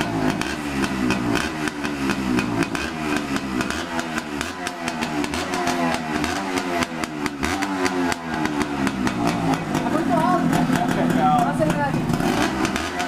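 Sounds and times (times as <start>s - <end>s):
motorcycle engine high idle: 0.0s - 13.0s.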